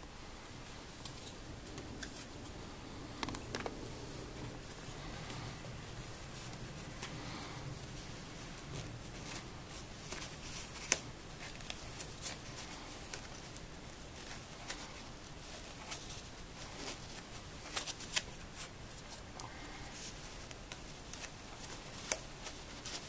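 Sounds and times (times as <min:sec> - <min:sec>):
nylon fabric rustling: 0:00.0 - 0:23.0.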